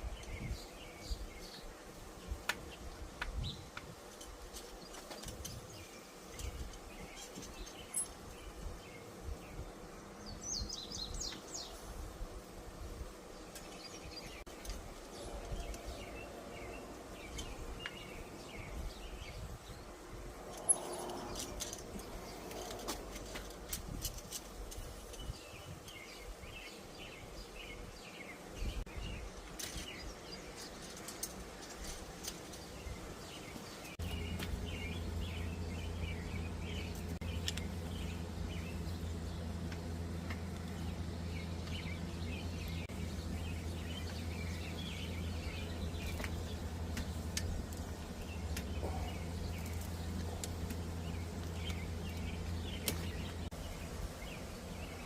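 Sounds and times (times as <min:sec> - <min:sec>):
small birds chirping: 0:00.0 - 0:12.1, 0:13.2 - 0:55.0
steady low hum: 0:00.0 - 0:55.0.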